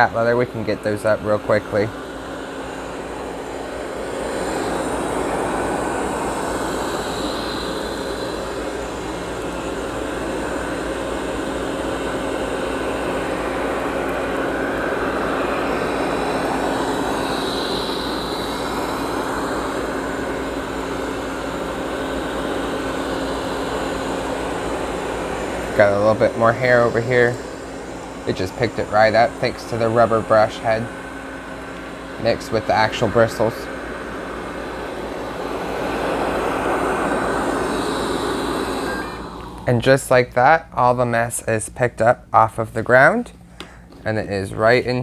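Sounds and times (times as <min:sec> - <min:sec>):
robot vacuum whirring: 0:02.0 - 0:40.0.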